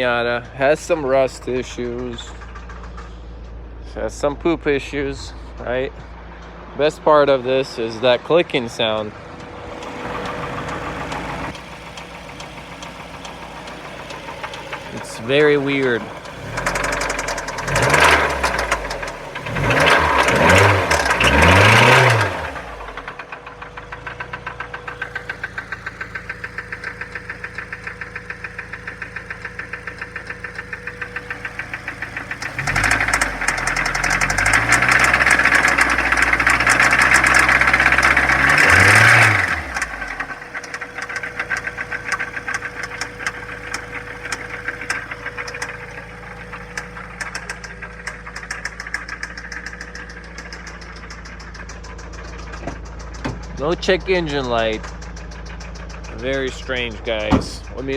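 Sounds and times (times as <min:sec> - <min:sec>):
car engine revving and idling: 0:00.0 - 0:57.9
metallic clicking from engine: 0:00.0 - 0:57.9.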